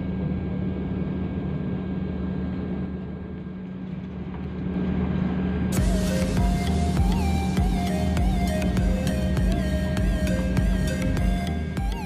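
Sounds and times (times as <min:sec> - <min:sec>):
jet engine cabin hum: 0:00.0 - 0:12.0.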